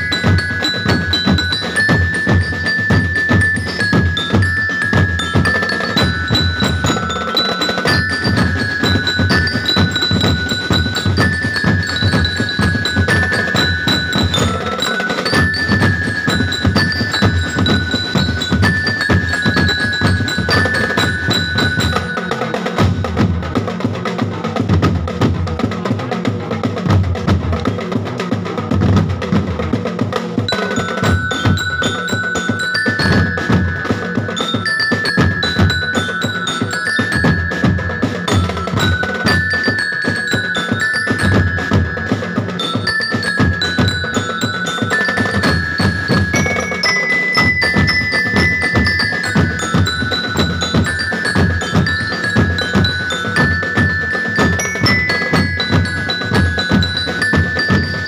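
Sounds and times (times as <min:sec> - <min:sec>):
bell-like mallet melody: 0:00.0 - 0:58.0
marching drums playing a beat: 0:00.0 - 0:58.0.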